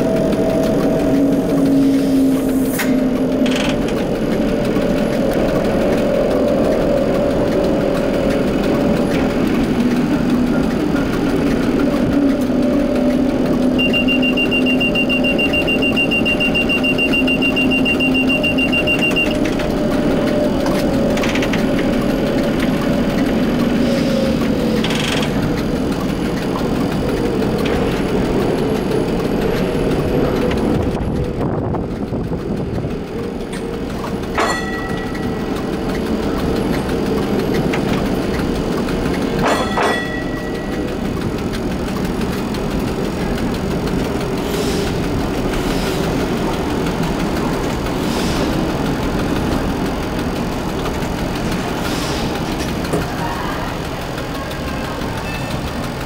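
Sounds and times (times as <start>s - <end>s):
streetcar motors humming: 0.0s - 56.0s.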